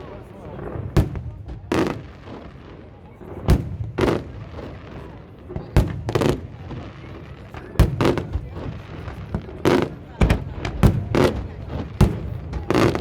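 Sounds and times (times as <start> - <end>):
background murmur: 0.0 - 13.0.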